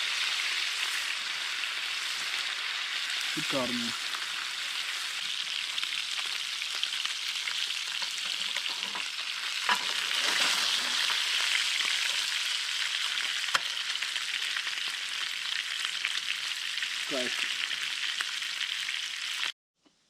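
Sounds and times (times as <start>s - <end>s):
fish sizzling in a pan: 0.0s - 19.6s.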